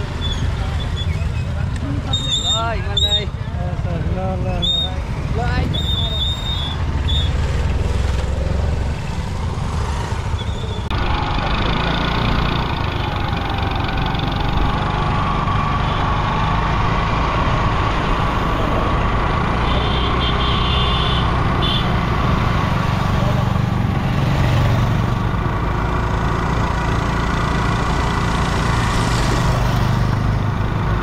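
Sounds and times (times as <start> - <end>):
motorcycle and car engines rumbling: 0.0 - 31.0
road noise: 0.0 - 31.0.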